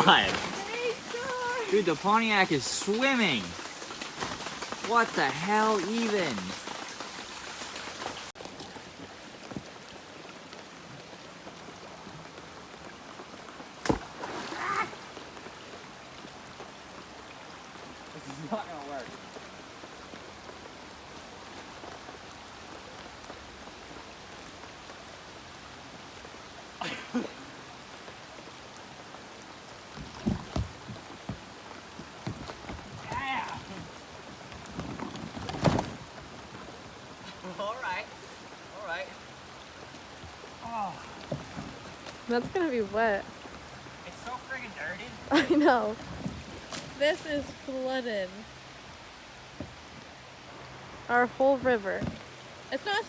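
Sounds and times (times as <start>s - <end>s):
rushing floodwater: 0.0s - 53.0s.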